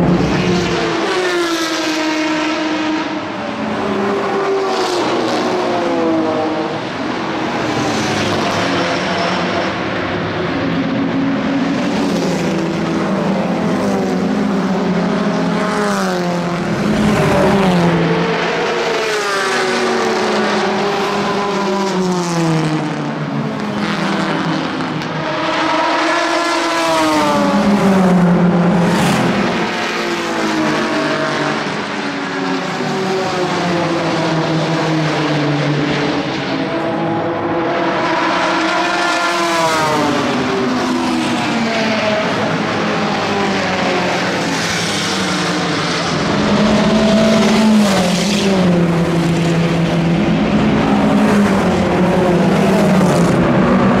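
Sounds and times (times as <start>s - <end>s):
racing cars passing at speed: 0.0s - 54.0s.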